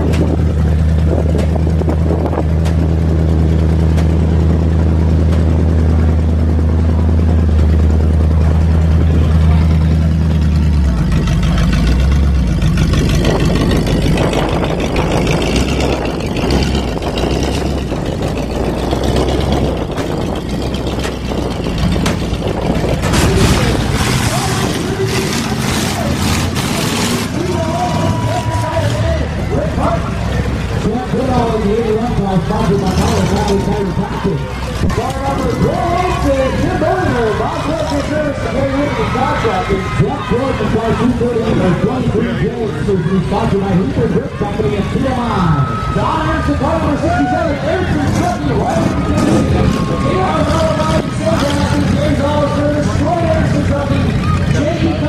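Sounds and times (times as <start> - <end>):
car engine idling: 0.0 - 55.0
car engine revving: 0.0 - 55.0.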